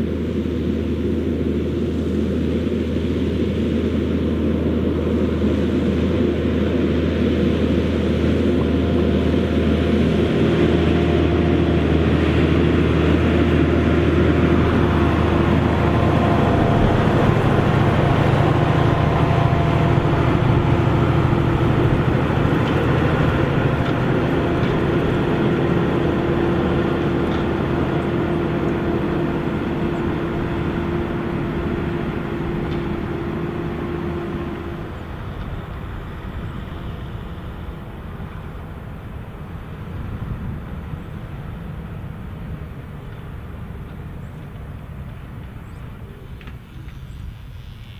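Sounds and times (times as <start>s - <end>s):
tractor diesel engine under load: 0.0s - 47.7s.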